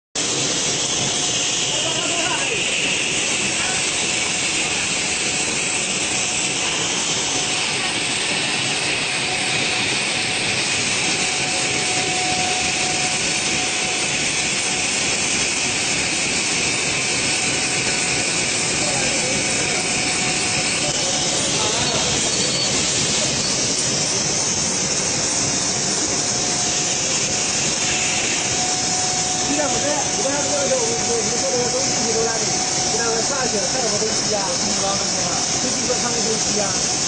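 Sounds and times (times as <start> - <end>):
cutting machine running: 0.2 - 37.0.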